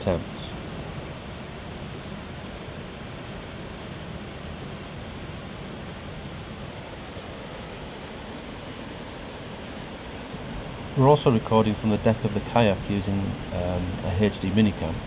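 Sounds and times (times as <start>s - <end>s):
river white water rushing: 0.0s - 15.0s.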